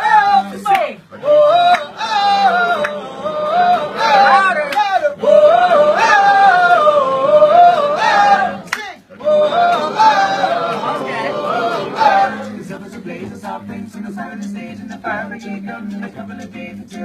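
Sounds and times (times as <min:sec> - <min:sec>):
men singing without instruments: 0:00.0 - 0:17.0.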